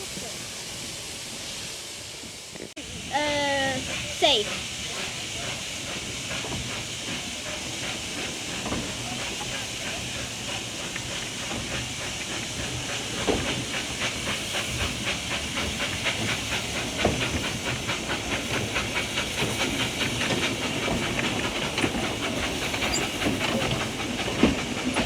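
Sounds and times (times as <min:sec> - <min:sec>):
steam hissing: 0:00.0 - 0:25.0
steam locomotive chuffing: 0:00.0 - 0:25.0
carriages knocking on track: 0:03.3 - 0:25.0.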